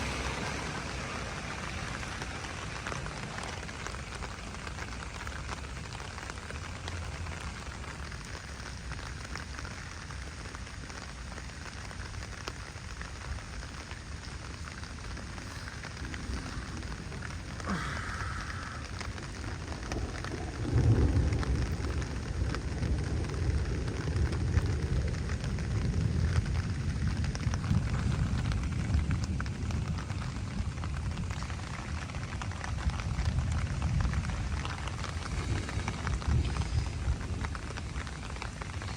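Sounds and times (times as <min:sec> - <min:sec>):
heavy rain falling: 0:00.0 - 0:38.9
thunder rumbling: 0:00.0 - 0:38.9.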